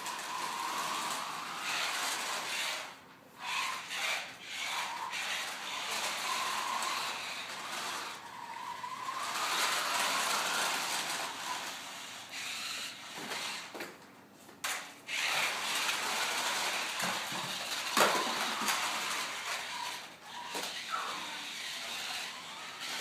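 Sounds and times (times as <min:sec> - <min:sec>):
toy car electric motor whining: 0:00.0 - 0:13.8, 0:15.1 - 0:23.0.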